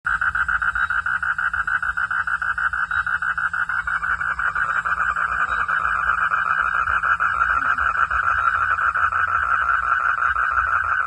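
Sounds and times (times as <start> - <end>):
frogs calling: 0.1 - 11.0.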